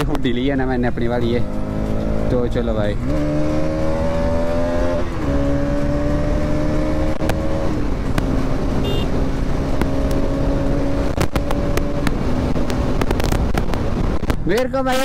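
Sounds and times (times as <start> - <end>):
motorcycle engine running: 0.0 - 14.4
wind and road noise: 0.0 - 15.0.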